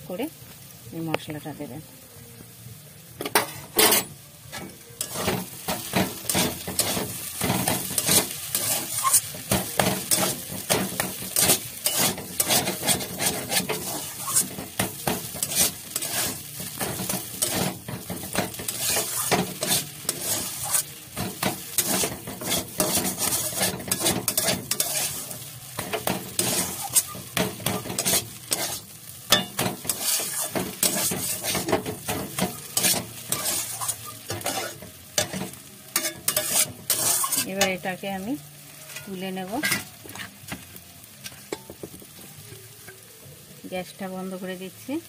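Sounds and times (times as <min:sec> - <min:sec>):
food sizzling in a pan: 0:00.0 - 0:45.0
spatula scraping a pan: 0:03.3 - 0:37.8, 0:38.9 - 0:40.5.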